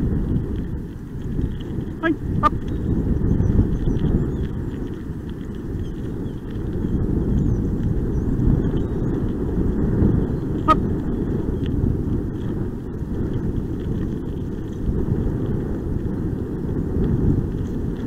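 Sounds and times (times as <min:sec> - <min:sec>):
wheels rolling over dirt: 0:00.0 - 0:18.0.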